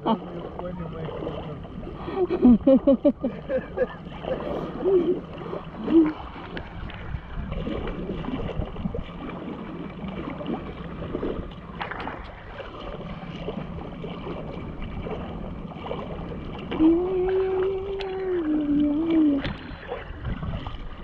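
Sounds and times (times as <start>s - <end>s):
water splashing around wading legs: 0.0s - 21.0s.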